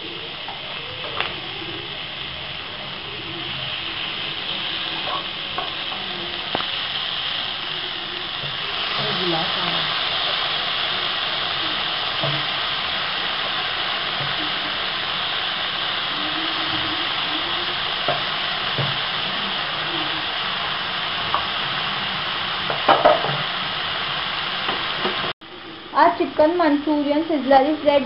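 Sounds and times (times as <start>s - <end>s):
gravy sizzling: 0.0s - 28.0s.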